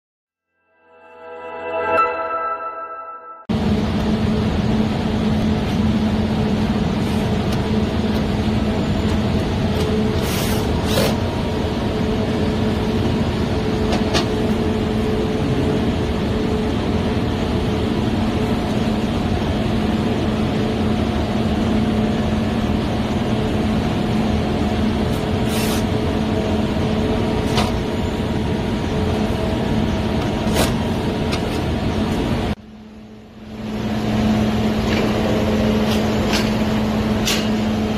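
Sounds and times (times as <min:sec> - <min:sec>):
industrial machinery hum: 0:01.0 - 0:37.9.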